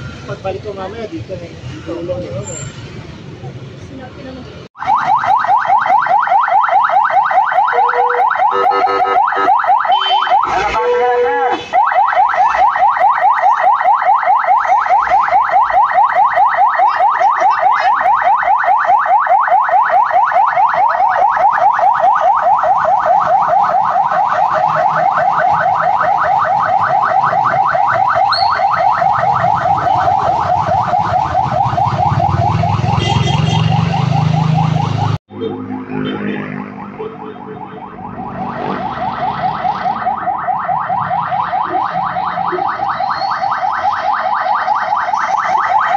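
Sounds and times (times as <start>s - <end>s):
ambulance siren yelping: 4.8s - 45.9s.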